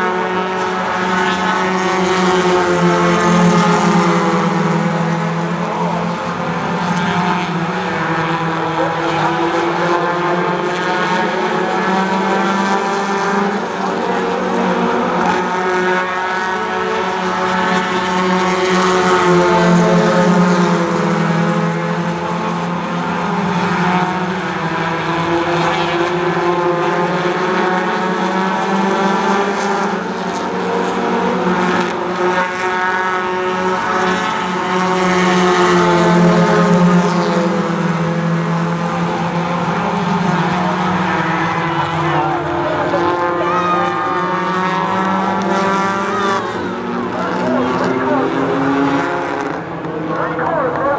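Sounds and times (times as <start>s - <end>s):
race car engines at high revs: 0.0s - 50.9s.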